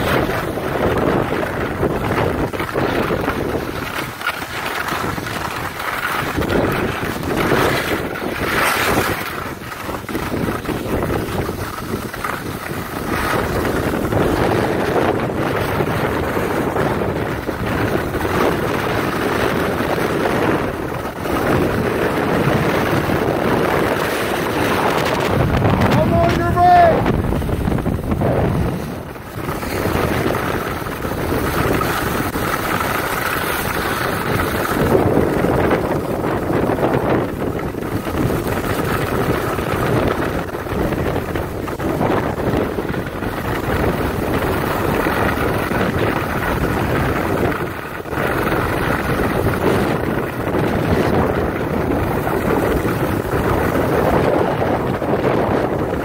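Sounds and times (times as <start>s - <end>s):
skis scraping on snow: 0.0s - 56.0s
wind rushing over microphone: 0.0s - 56.0s.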